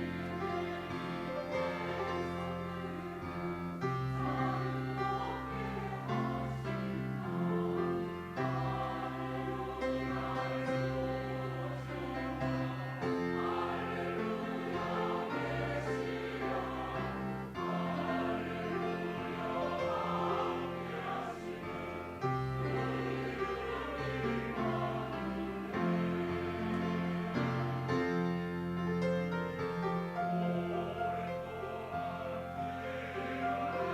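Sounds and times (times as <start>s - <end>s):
church choir singing: 0.0s - 33.9s.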